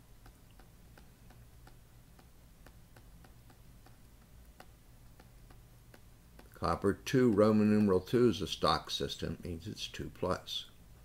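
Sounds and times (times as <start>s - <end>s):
faint regular ticking: 0.0s - 10.8s
low steady hum: 0.0s - 11.0s.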